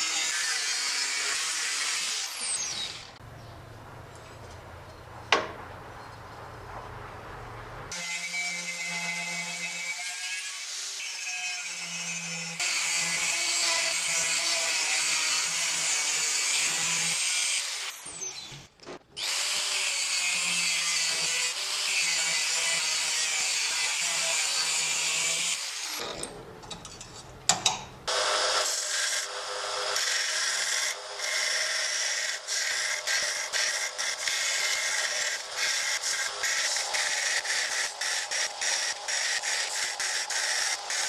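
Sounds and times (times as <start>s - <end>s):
angle grinder cutting steel: 0.0s - 3.2s, 7.9s - 18.5s, 19.2s - 27.2s, 28.1s - 41.0s
belt grinder grinding steel: 0.0s - 3.2s, 7.9s - 18.5s, 19.2s - 27.3s, 28.1s - 41.0s.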